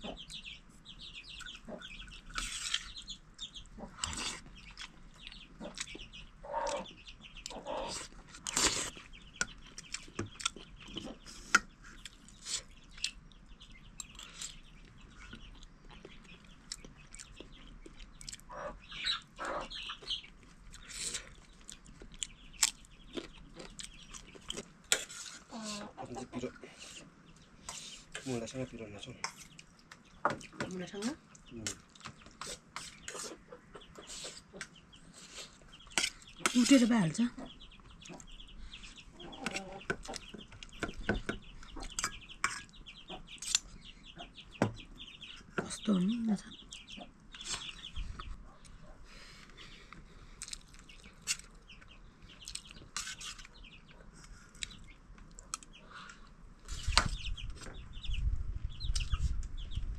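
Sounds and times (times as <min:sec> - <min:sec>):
chickens clucking: 0:00.0 - 0:24.7, 0:25.3 - 0:59.9
chicks peeping: 0:00.0 - 0:59.9.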